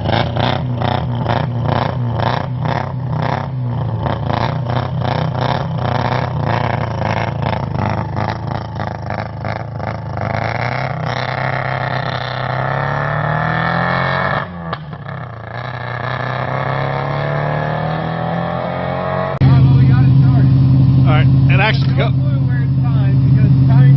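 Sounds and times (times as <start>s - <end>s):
rotary engine revving: 0.0s - 23.9s.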